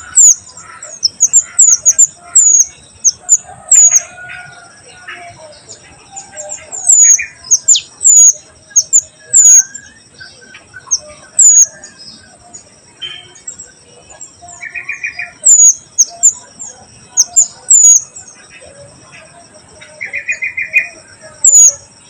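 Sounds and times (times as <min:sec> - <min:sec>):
bird whistled calls: 0:00.0 - 0:05.2, 0:06.2 - 0:13.6, 0:14.5 - 0:18.4, 0:19.8 - 0:21.9
steady high whine: 0:00.0 - 0:22.0.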